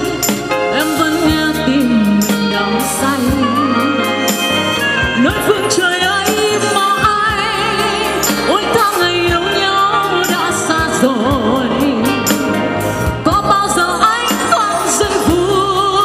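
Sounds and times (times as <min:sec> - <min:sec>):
drums with cymbals: 0:00.0 - 0:16.0
guitars: 0:00.0 - 0:16.0
keyboards: 0:00.0 - 0:16.0
woman singing with vibrato: 0:00.0 - 0:16.0.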